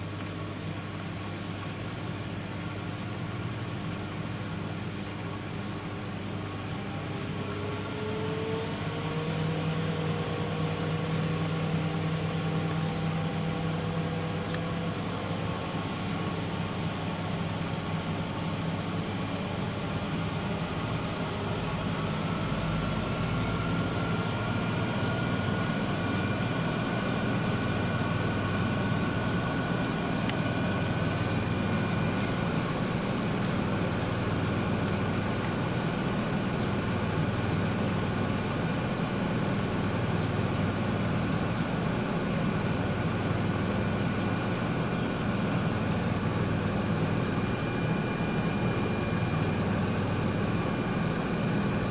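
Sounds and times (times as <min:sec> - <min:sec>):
faint motor whine: 0:00.0 - 0:51.9
motor hum: 0:00.0 - 0:51.9.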